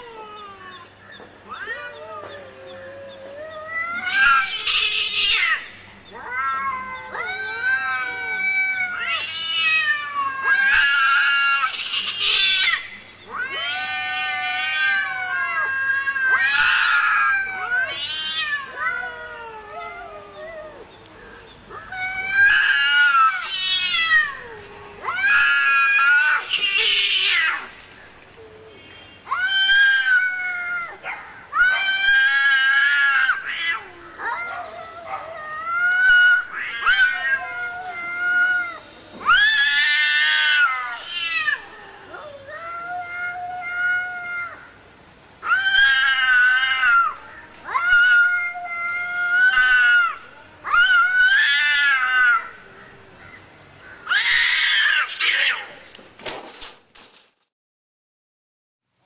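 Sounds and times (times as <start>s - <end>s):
cat yowling: 0.0s - 20.9s, 21.7s - 27.7s, 28.4s - 44.7s, 45.4s - 52.7s, 54.0s - 55.7s.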